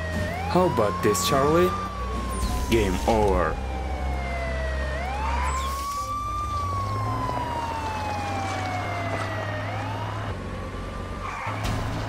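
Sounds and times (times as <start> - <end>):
police siren wailing: 0.0 - 12.0.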